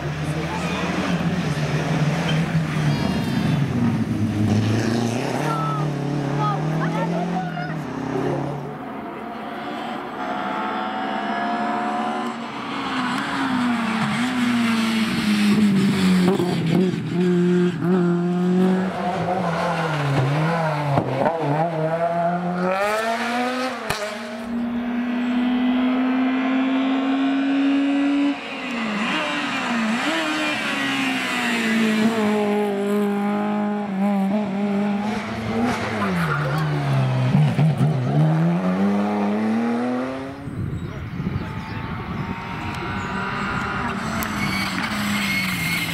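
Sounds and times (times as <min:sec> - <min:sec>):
rally car engines revving: 0:00.0 - 0:45.9.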